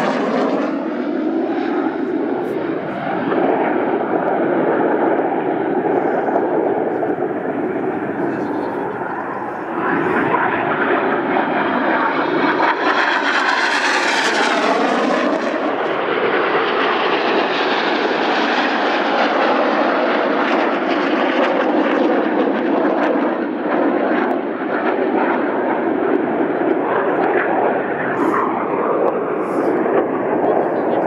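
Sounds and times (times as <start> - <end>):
jet passing with whoosh: 0.0 - 21.0, 25.1 - 31.0
jet engines roaring: 0.0 - 31.0.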